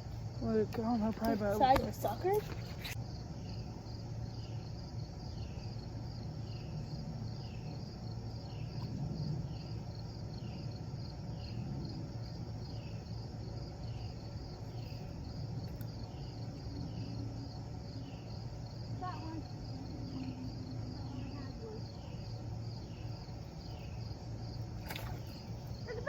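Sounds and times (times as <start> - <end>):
insects trilling: 0.0 - 26.0
steady low hum: 0.0 - 26.0.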